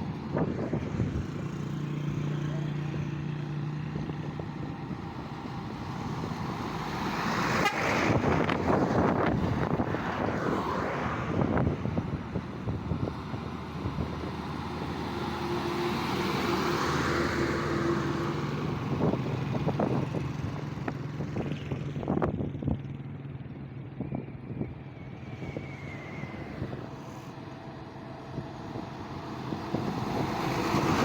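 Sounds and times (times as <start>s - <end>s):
road noise: 0.0s - 31.0s
vehicle engine hum: 0.0s - 31.0s.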